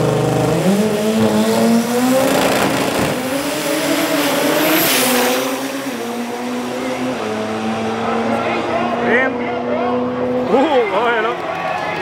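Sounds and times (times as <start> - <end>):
drag car accelerating: 0.0 - 11.4.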